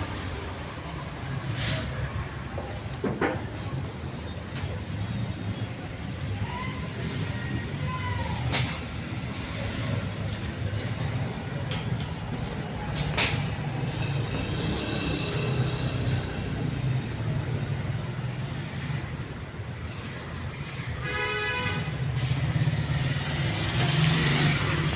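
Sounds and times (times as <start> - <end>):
vehicle engine rumbling: 0.0 - 24.9.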